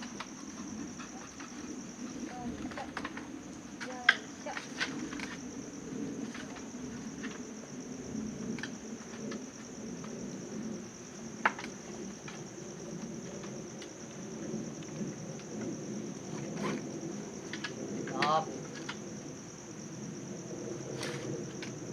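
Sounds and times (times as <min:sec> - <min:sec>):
insects chirping: 0:00.0 - 0:21.9.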